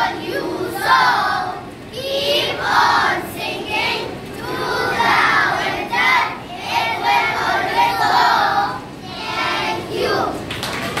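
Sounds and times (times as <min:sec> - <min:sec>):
children singing together: 0:00.0 - 0:10.5.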